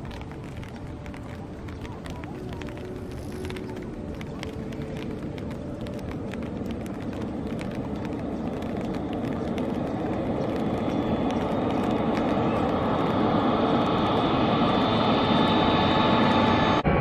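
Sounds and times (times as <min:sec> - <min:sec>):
rain ticking on umbrella: 0:00.0 - 0:15.5
high jet whine: 0:00.0 - 0:17.0
jet airliner engine noise: 0:00.0 - 0:17.0.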